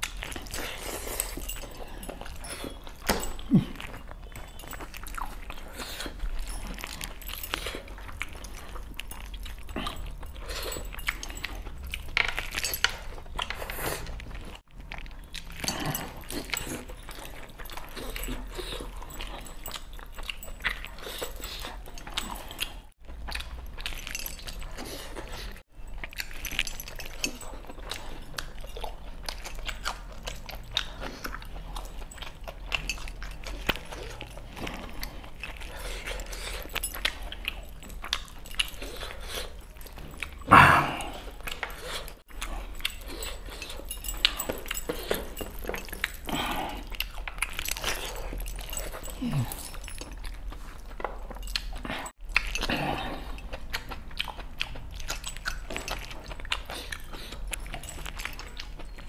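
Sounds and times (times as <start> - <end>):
man chewing and lip smacking: 0.0 - 59.0.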